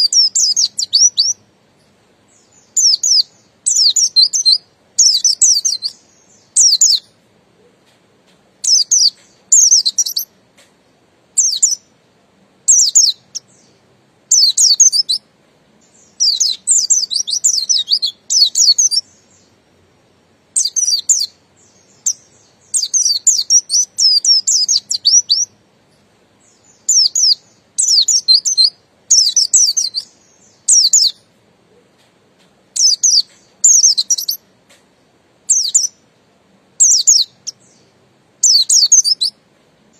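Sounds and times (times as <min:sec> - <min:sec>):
bird twittering song: 0:00.0 - 0:12.0, 0:12.6 - 0:36.1, 0:36.8 - 0:39.9.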